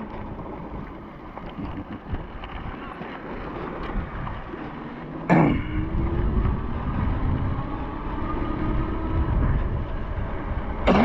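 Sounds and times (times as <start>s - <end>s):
road noise: 0.0s - 11.0s
wind on microphone: 0.0s - 11.0s.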